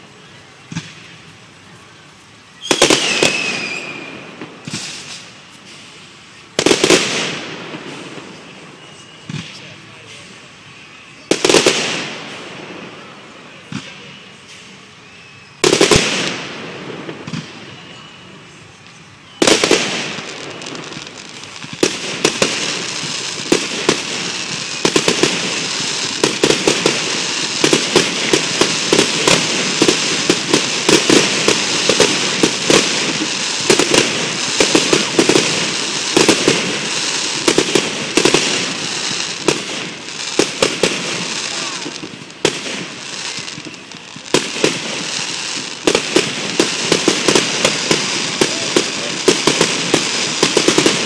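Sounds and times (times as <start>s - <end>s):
firework barrage with crackling: 0.0s - 51.0s
loud firework bangs: 2.6s - 6.0s, 6.6s - 10.4s, 11.2s - 14.1s, 15.6s - 18.0s, 19.4s - 51.0s.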